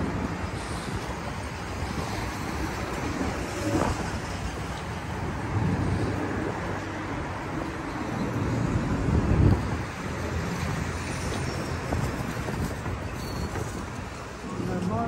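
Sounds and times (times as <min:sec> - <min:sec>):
rumble of passing traffic: 0:00.0 - 0:15.0.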